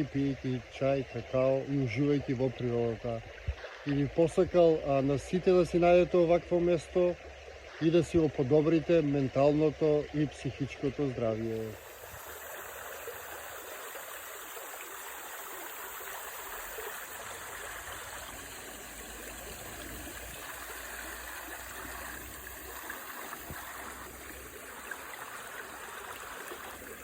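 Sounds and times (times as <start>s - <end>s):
flowing stream water: 0.0s - 27.0s.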